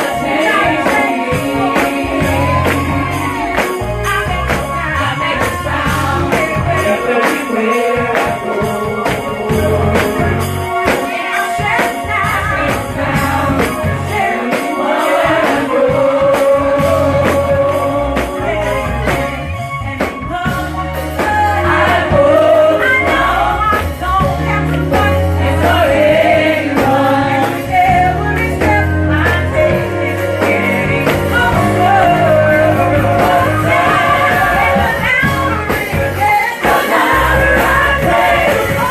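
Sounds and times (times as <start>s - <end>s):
band with bass and drums: 0.0s - 38.9s
choir singing: 0.0s - 38.9s
lead singer singing: 0.0s - 38.9s.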